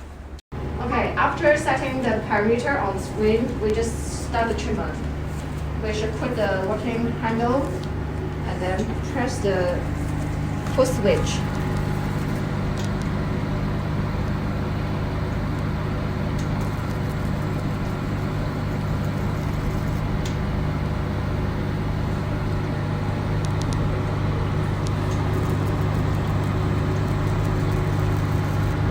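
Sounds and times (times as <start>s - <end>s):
laser machine humming: 0.6s - 28.9s.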